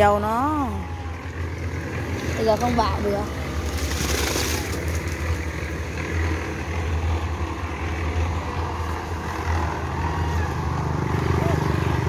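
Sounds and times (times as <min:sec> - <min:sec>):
concrete mixer running: 0:00.0 - 0:12.0.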